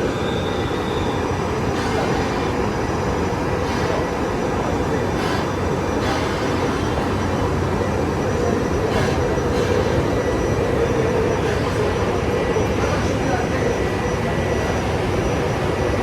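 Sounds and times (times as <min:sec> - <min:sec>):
train running by: 0:00.0 - 0:16.0.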